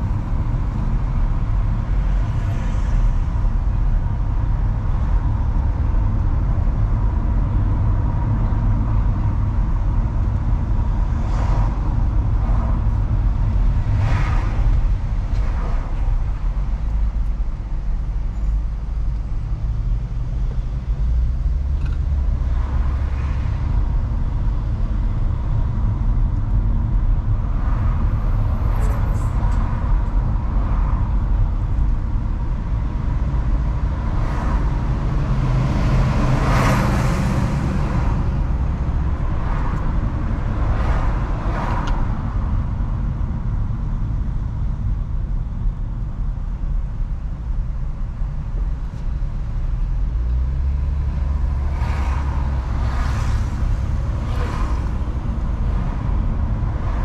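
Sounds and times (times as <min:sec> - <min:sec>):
car road and engine rumble: 0:00.0 - 0:57.0
vehicles passing: 0:00.0 - 0:57.0.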